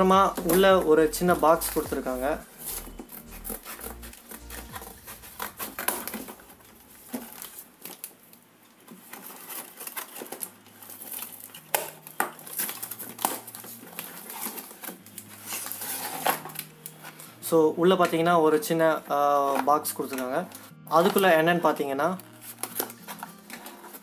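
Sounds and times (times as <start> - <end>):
cardboard crinkling and rustling: 0.3 - 24.0.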